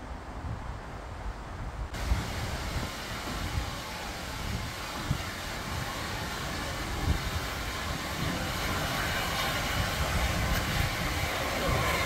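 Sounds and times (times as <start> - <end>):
steam locomotive rumble: 2.0 - 12.0.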